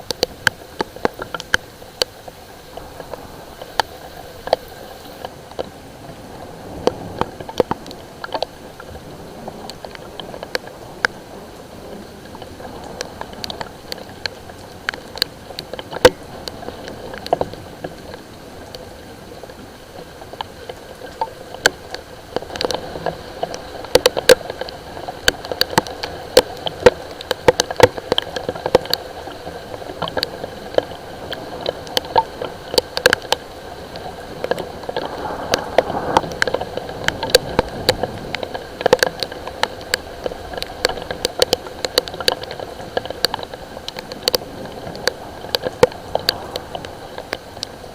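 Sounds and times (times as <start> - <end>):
raindrops tapping on hard surface: 0.0 - 47.9.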